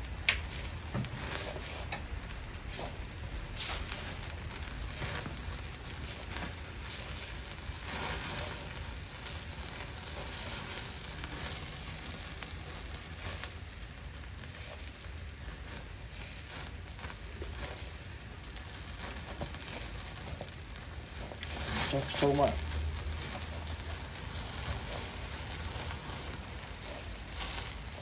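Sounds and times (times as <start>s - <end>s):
meat sizzling on a grill: 0.0s - 28.0s.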